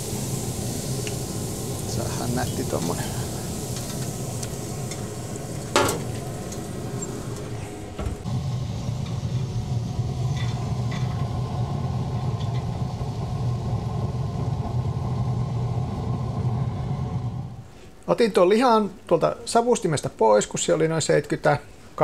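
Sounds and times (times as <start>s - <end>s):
grill humming: 0.0s - 17.8s.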